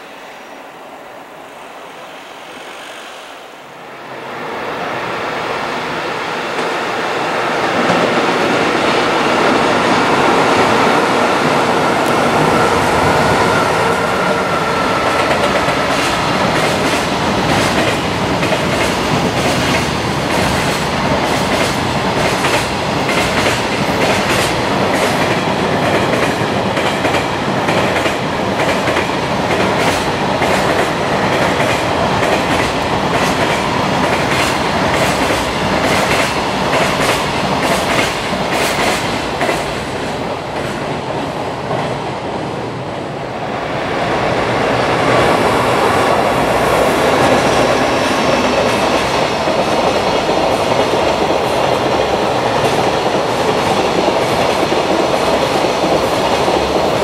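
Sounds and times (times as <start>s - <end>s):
heavy train rumble: 0.0s - 57.0s.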